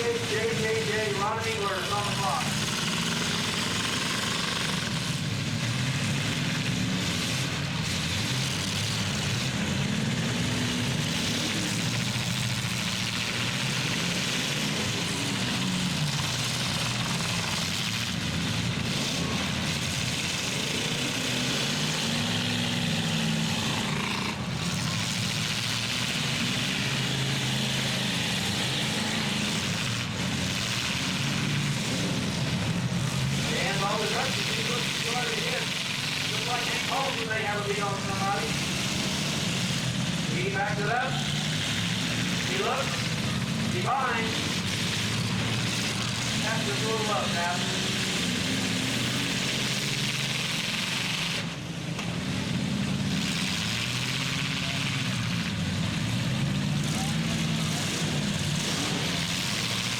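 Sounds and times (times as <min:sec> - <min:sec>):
steady outdoor noise: 0:00.0 - 0:59.9
truck engines revving: 0:00.0 - 0:59.9.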